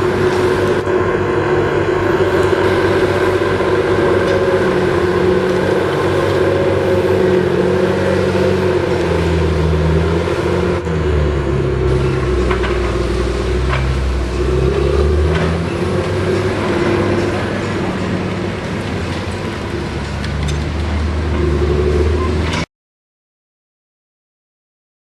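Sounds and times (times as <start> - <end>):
bulldozer diesel engine running: 0.0 - 22.6
steady whine: 0.0 - 22.7.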